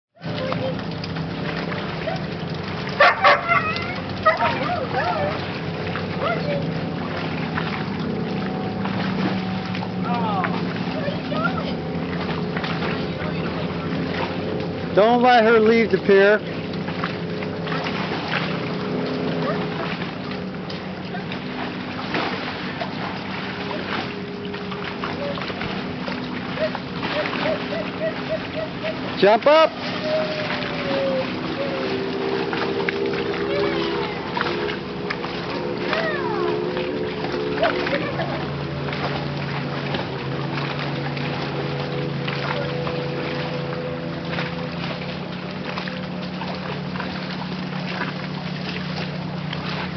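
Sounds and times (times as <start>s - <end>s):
boat motor droning: 0.1s - 49.9s.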